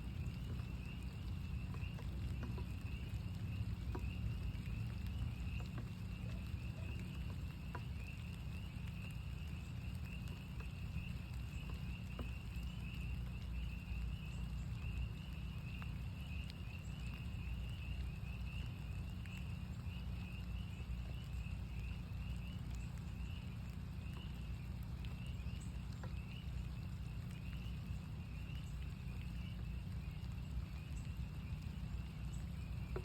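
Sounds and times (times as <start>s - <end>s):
raindrop ticks: 0.0s - 33.0s
spring peepers chorus: 0.0s - 33.0s.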